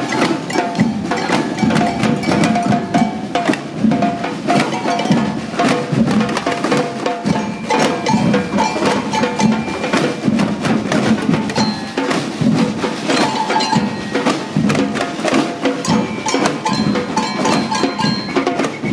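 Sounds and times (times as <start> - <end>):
samba drums and hand percussion: 0.0 - 18.9.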